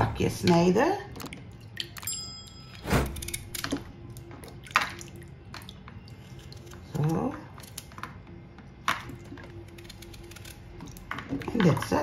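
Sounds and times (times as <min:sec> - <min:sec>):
water sloshing and dripping: 0:00.0 - 0:12.0.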